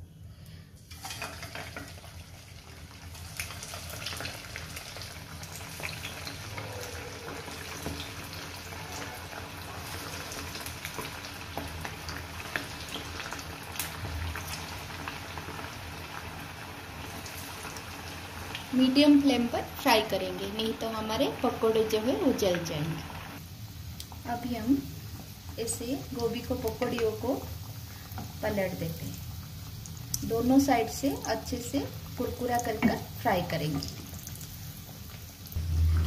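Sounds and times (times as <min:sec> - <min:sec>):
fritters deep-frying in oil: 0:01.0 - 0:36.0.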